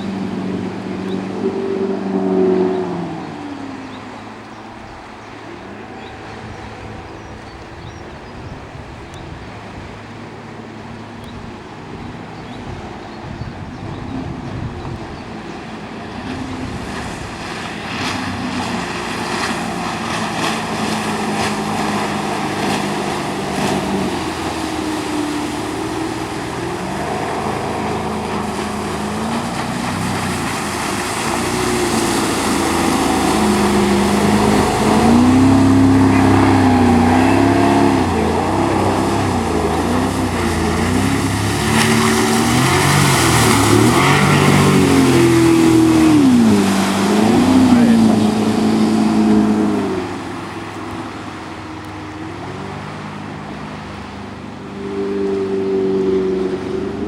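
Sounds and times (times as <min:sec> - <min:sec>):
outboard motor running: 0:00.0 - 0:57.0
water noise: 0:00.0 - 0:57.0.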